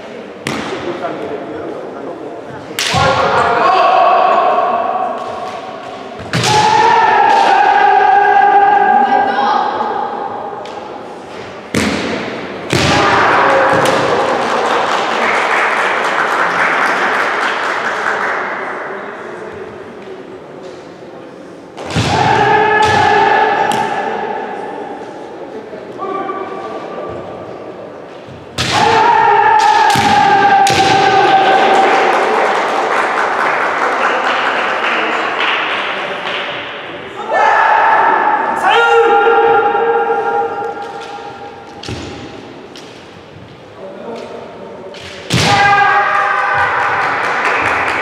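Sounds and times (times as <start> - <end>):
people shouting in echoing hall: 0.0 - 15.3, 21.8 - 48.0.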